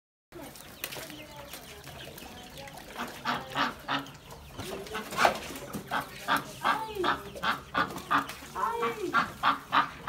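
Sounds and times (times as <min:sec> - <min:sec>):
poultry calling: 0:01.9 - 0:10.0.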